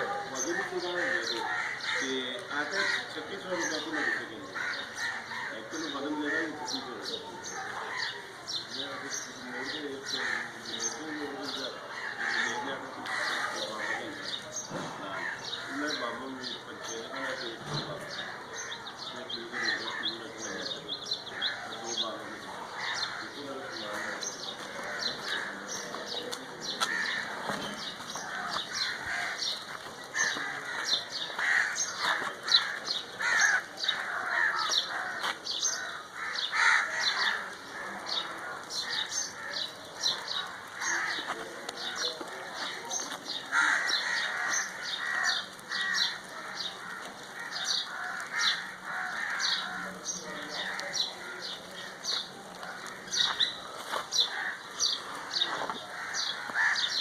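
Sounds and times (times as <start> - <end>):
crows cawing: 0.0 - 57.0
small birds chirping: 0.0 - 57.0.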